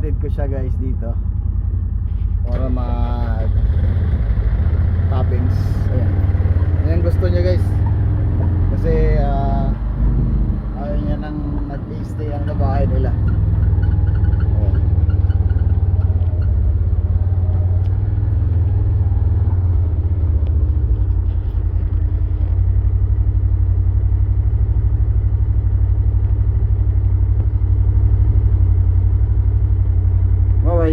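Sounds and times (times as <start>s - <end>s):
tractor engine drone: 0.0s - 30.9s.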